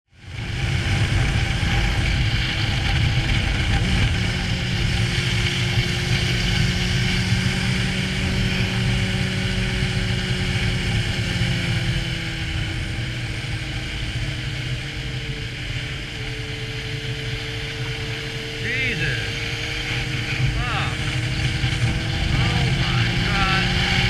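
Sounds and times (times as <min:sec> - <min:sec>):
motorcycle engine running: 0:00.1 - 0:24.0.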